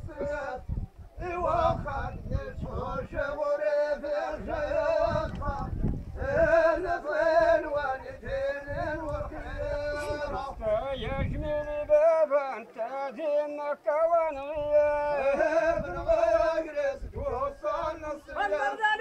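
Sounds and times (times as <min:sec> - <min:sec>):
man singing a folk song: 0:00.0 - 0:19.0.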